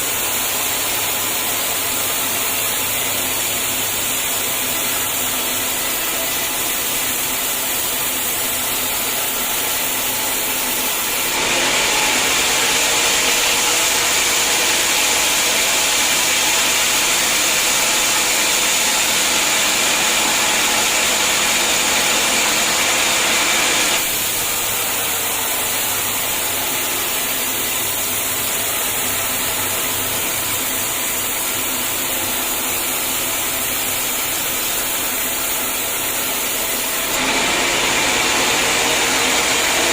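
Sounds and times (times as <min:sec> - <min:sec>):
saw blade cutting log: 0:00.0 - 0:39.9
sawmill saw running: 0:00.0 - 0:39.9.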